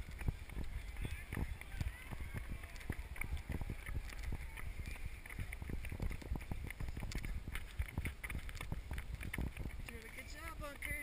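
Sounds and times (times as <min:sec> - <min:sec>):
running footsteps on asphalt: 0:00.0 - 0:11.0
wind rumble on microphone: 0:00.0 - 0:11.0.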